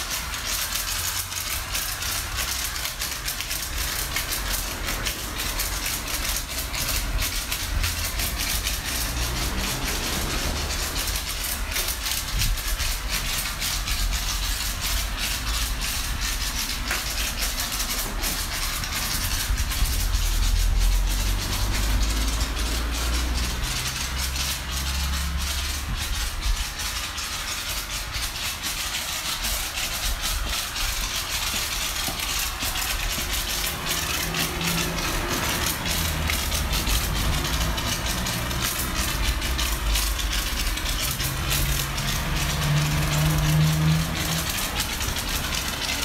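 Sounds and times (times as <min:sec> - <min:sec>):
low mechanical hum: 0:00.0 - 0:46.0
pressure washer spray hissing: 0:00.0 - 0:46.0.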